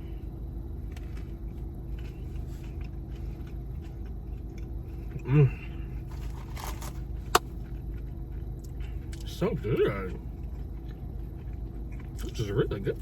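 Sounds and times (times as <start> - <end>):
low background hum: 0.0 - 13.0
chewing and biting food: 0.8 - 5.2, 6.0 - 12.9.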